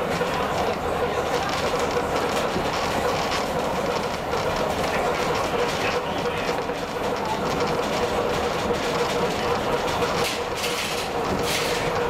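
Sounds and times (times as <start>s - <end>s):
train rolling on track: 0.0s - 12.0s
wheels clicking on track: 0.0s - 12.0s.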